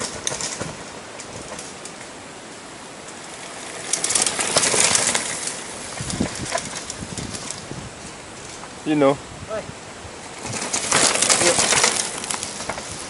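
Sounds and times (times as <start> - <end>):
bike tyres crunching on gravel: 0.0 - 9.2, 9.9 - 13.0.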